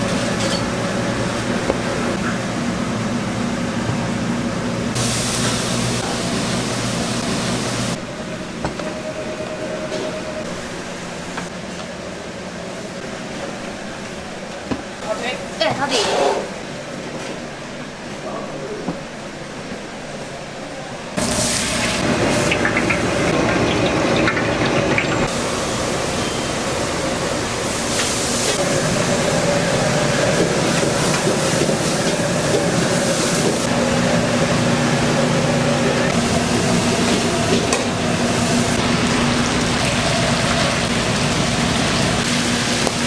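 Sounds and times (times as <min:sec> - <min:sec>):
kitchen roar and hiss: 0:00.0 - 0:43.0.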